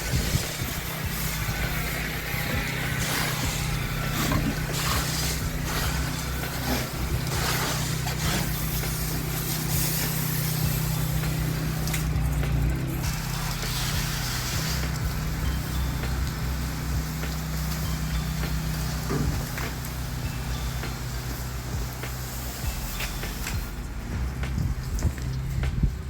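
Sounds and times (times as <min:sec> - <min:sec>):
wand spraying hiss: 0:00.0 - 0:25.8
pressure washer engine running: 0:00.0 - 0:26.0.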